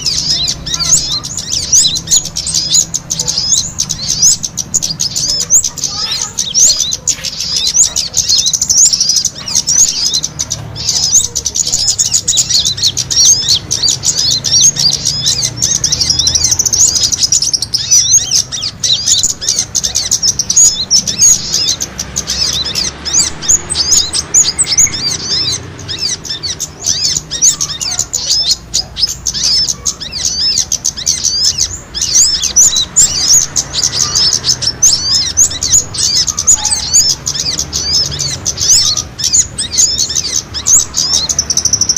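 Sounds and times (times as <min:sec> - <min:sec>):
small birds chirping rapidly: 0:00.0 - 0:41.9.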